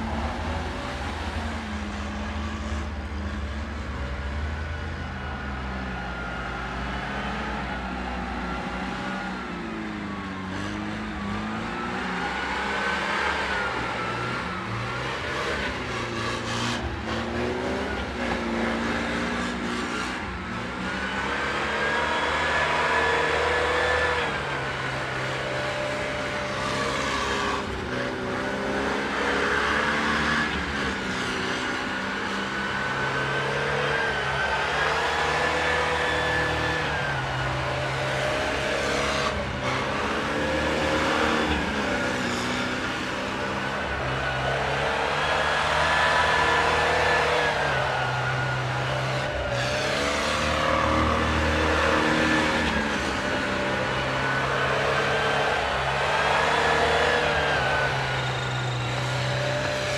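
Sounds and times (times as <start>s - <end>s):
vehicle engines revving: 0.0s - 59.9s.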